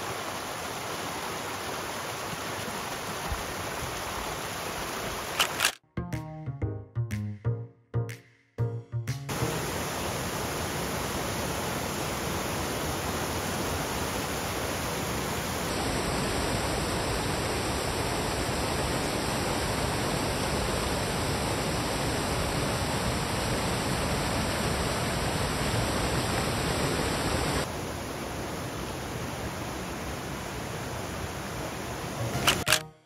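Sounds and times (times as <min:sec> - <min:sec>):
waterfall roaring: 0:00.0 - 0:05.7, 0:09.3 - 0:32.7.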